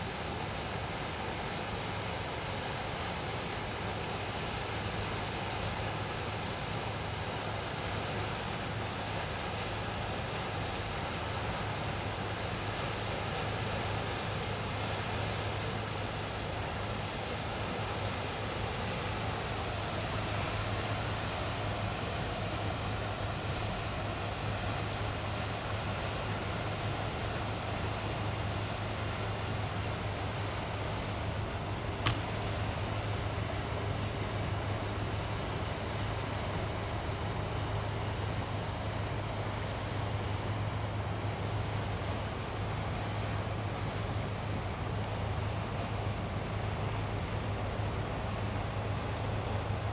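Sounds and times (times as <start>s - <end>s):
ship diesel engine drone: 0.0s - 49.9s
wind and water hiss: 0.0s - 49.9s.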